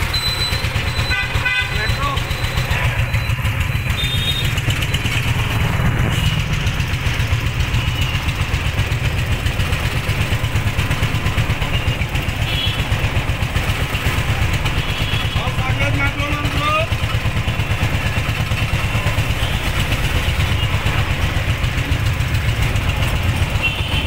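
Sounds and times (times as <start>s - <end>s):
engine idling with pulsing throb: 0.0s - 24.0s
street traffic hiss: 0.0s - 24.0s.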